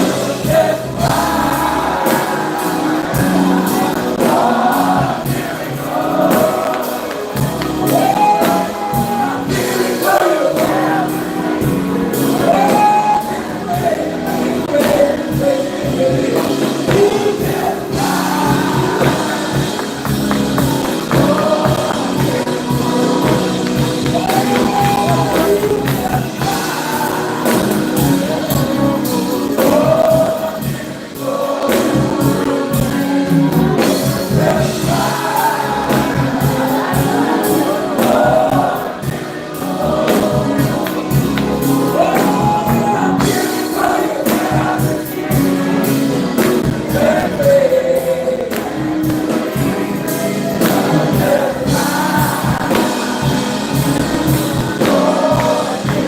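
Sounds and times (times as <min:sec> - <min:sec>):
gospel choir singing: 0:00.0 - 0:56.0
live band music: 0:00.0 - 0:56.0.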